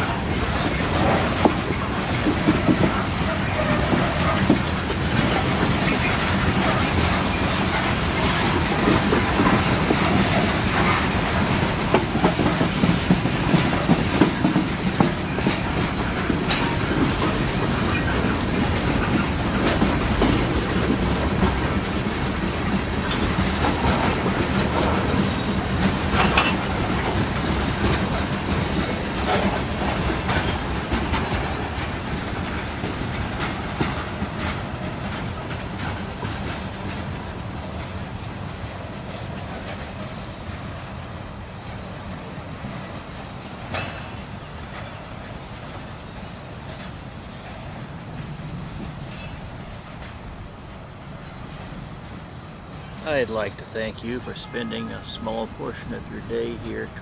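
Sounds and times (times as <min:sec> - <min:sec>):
freight train wheels clicking on rail joints: 0:00.0 - 0:57.0
train rolling rumble: 0:00.0 - 0:57.0.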